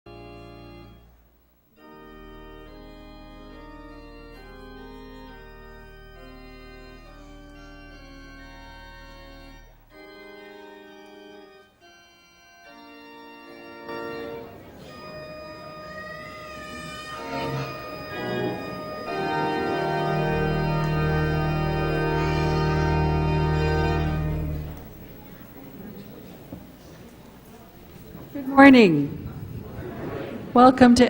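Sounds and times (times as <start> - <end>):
low organ pedal note: 0.1 - 1.2, 1.8 - 29.7
church organ chords: 0.1 - 29.8.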